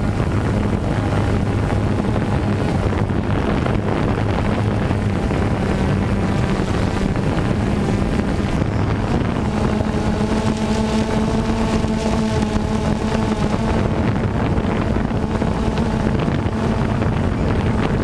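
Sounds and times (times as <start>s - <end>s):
higher-pitched motor tone: 0.0s - 18.0s
motor hum: 0.0s - 18.0s
wind noise on microphone: 0.0s - 18.0s.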